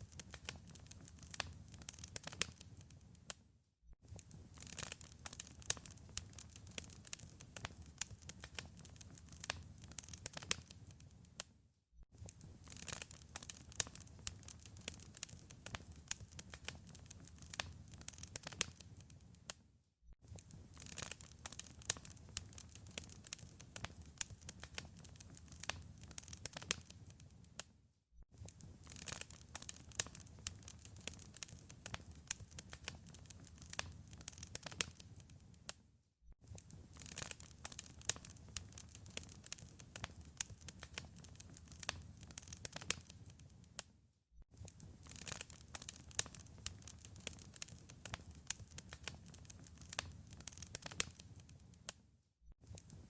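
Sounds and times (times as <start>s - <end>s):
wood fire crackling: 0.0s - 3.3s, 4.1s - 11.4s, 12.2s - 19.5s, 20.3s - 27.7s, 28.4s - 35.8s, 36.5s - 43.9s, 44.6s - 52.0s, 52.6s - 53.0s.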